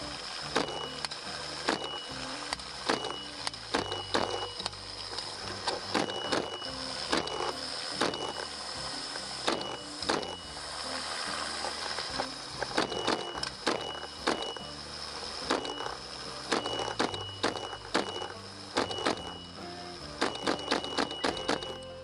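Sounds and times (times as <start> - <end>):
low bass line: 0.0 - 22.0.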